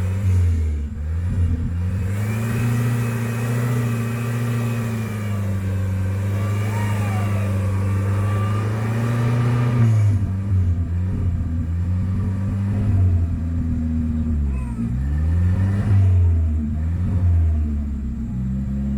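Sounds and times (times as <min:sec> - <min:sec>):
engine running at high revs: 0:00.0 - 0:18.9.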